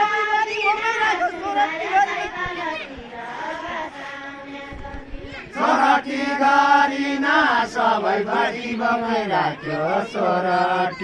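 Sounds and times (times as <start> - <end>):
group singing in unison: 0.0 - 11.0.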